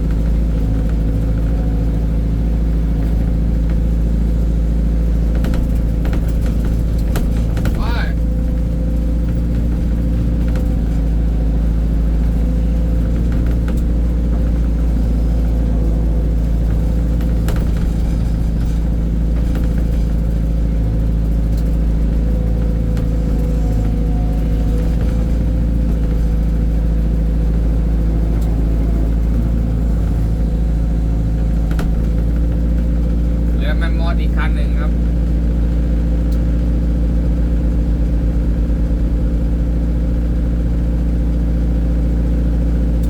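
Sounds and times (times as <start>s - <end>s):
diesel engine rumbling: 0.0s - 43.0s.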